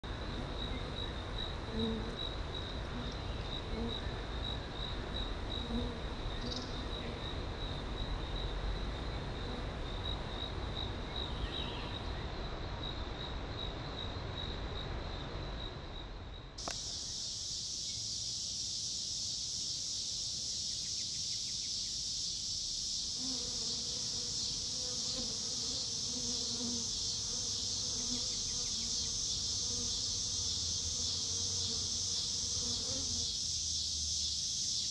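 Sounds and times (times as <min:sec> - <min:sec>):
insects trilling: 0:00.0 - 0:13.0, 0:13.6 - 0:34.9
high-pitched insect chorus: 0:00.0 - 0:34.9.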